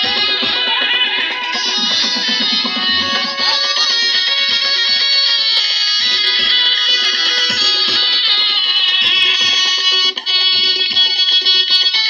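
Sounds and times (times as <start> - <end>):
dance music with plucked melody: 0.0 - 12.0.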